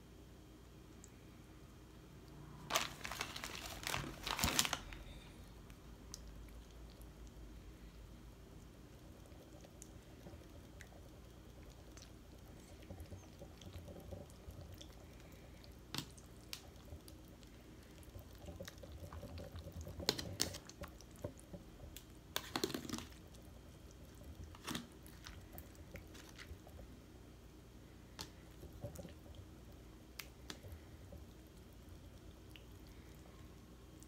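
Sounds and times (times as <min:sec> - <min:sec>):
wet squishing of spaghetti: 0:02.7 - 0:34.0.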